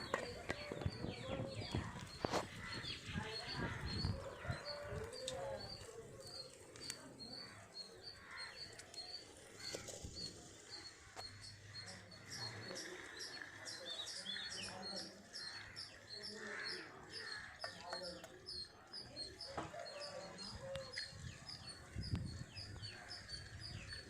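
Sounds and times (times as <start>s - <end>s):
faint voices: 0.0s - 24.0s.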